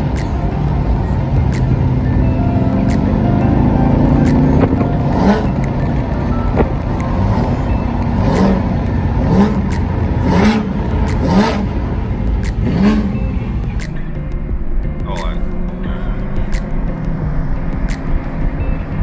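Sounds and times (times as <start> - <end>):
car engine and exhaust rumbling: 0.0 - 19.0.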